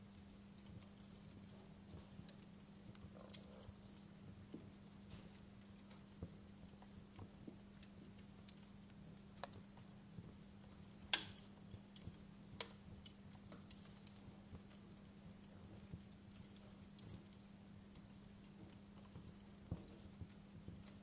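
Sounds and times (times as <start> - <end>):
steady low hum: 0.0 - 21.0
wood fire crackling: 0.0 - 21.0.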